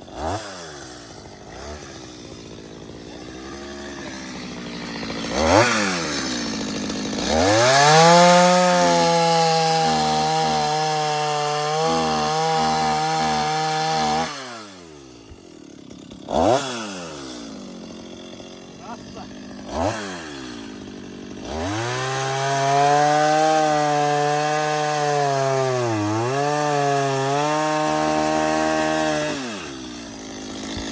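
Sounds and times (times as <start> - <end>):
chainsaw cutting log: 0.0 - 30.9.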